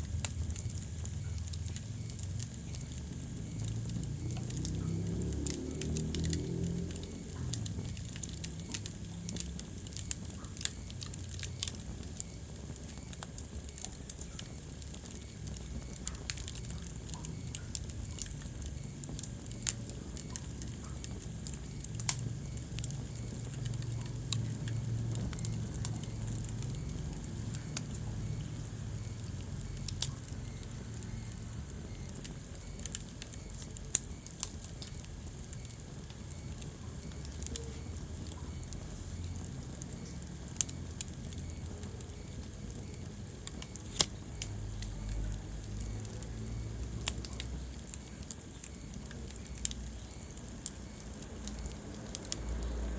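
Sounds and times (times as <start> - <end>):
fire flames rumbling: 0.0 - 52.9
logs crackling and popping: 0.0 - 52.9.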